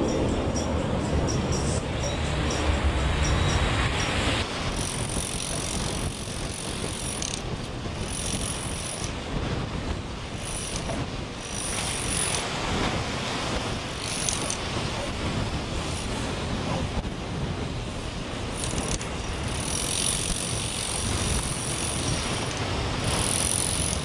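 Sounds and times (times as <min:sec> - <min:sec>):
wind on microphone: 0:00.0 - 0:24.0
surf washing onto beach: 0:01.0 - 0:24.0.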